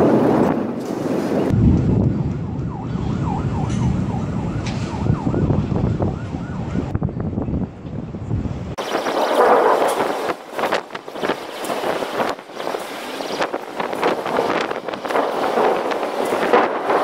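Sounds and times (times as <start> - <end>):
low rumble of city noise: 0.0 - 17.0
wind on microphone: 0.0 - 17.0
emergency siren yelping: 1.5 - 7.4, 8.8 - 17.0.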